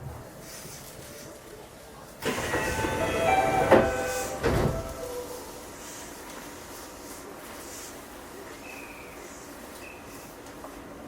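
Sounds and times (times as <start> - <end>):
train wheels rushing on rail: 2.1 - 11.0.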